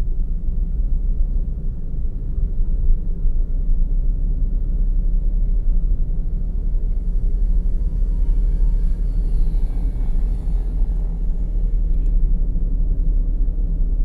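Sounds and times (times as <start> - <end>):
car engine and tyre road noise: 0.0 - 14.0.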